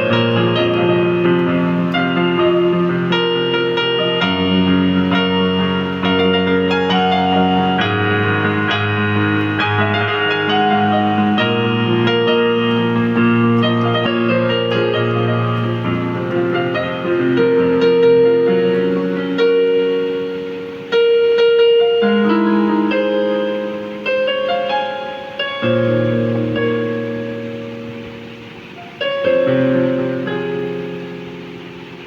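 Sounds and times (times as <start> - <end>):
synthesizer piano melody: 0.0 - 32.0.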